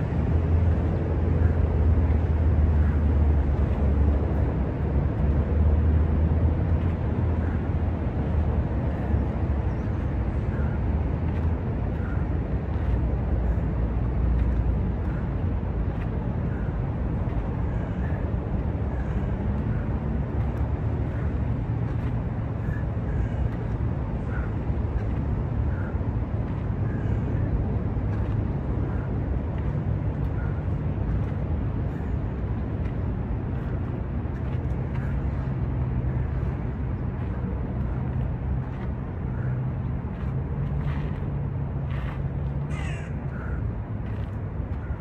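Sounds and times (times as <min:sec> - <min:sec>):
low rumble of city traffic: 0:00.0 - 0:45.0.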